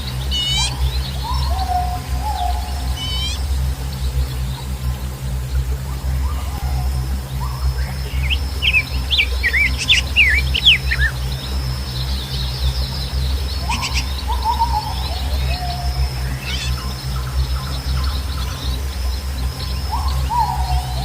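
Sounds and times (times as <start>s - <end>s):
songbirds chirping: 0.0s - 21.0s
steady low rumble: 0.0s - 21.0s.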